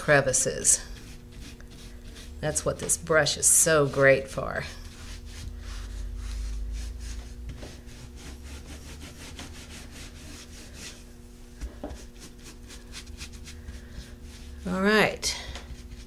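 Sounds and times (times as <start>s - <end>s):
scratchy brush strokes on wood: 0.1s - 16.0s.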